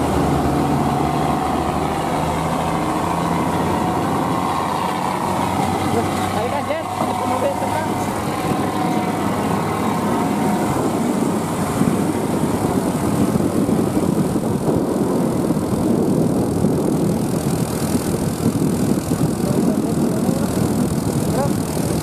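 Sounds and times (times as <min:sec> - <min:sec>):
heavy trucks engine and road noise: 0:00.0 - 0:22.0.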